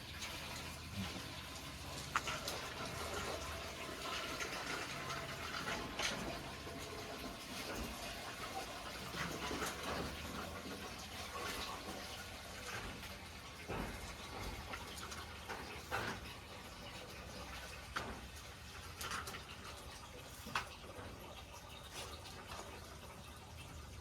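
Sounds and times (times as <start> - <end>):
water running: 0.0 - 24.0.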